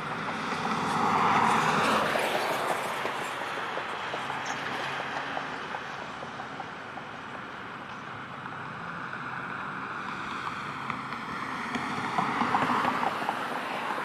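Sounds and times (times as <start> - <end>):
outdoor rushing noise: 0.0 - 14.0.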